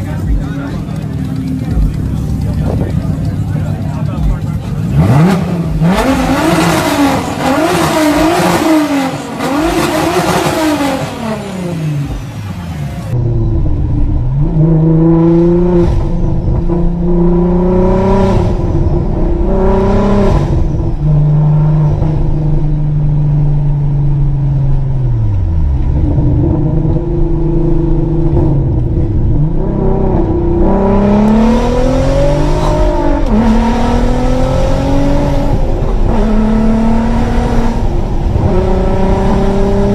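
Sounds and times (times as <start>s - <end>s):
car accelerating through gears: 0.0s - 12.4s, 13.1s - 39.9s
car engine revving: 0.0s - 39.9s.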